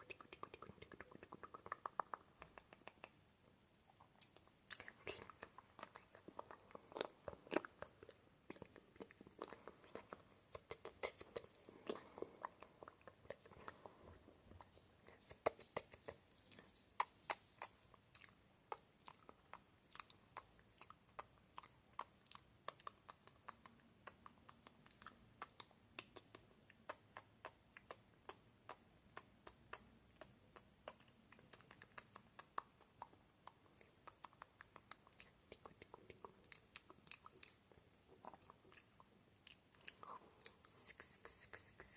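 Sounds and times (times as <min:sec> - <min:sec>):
tongue and lip clicks: 0:00.0 - 0:41.9.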